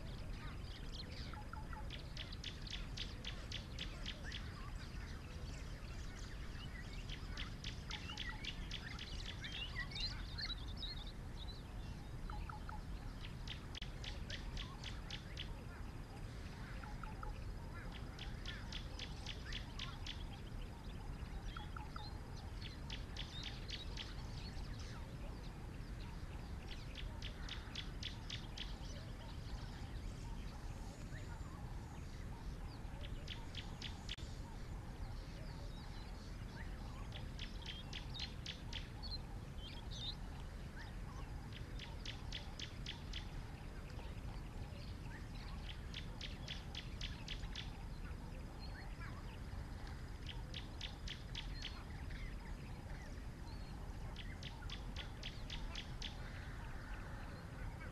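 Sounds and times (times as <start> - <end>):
bird chirps: 0.0 - 57.9
bird ticking calls: 0.0 - 57.9.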